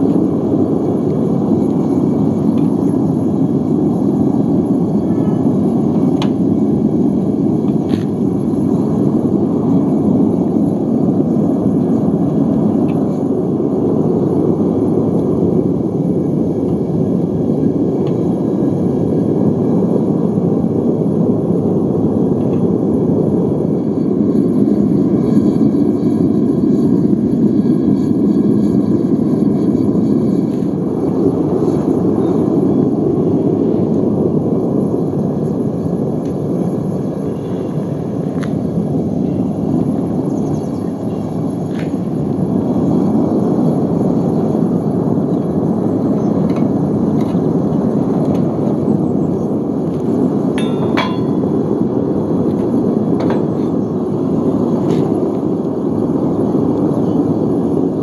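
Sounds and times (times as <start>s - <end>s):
gas burner roaring: 0.0s - 58.0s.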